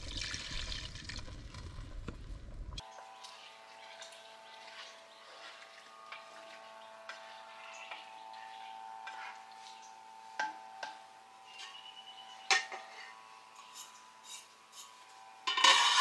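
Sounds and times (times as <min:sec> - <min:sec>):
metal pots and utensils clinking: 0:03.1 - 0:16.0.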